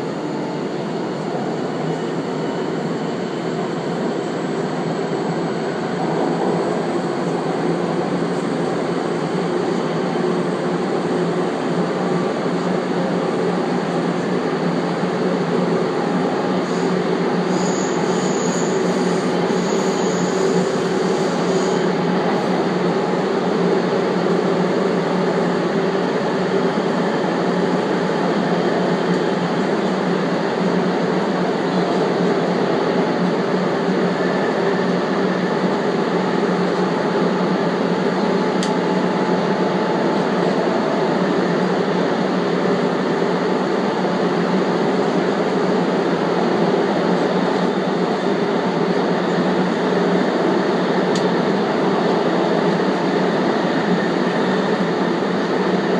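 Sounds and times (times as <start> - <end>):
subway train running on rails: 0.0 - 55.9.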